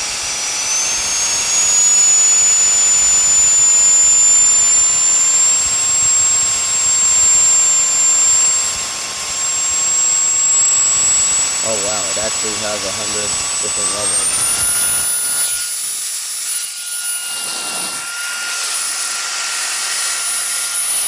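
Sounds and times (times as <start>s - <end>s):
handheld vacuum blower whine: 0.0s - 21.0s.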